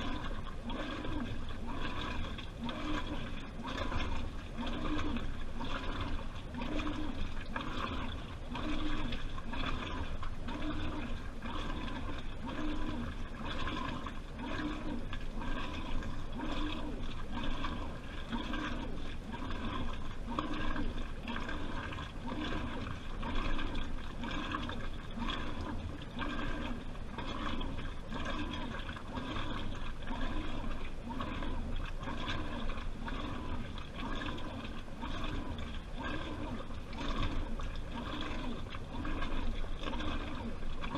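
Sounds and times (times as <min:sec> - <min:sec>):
washing machine drum sloshing: 0:00.0 - 0:40.9.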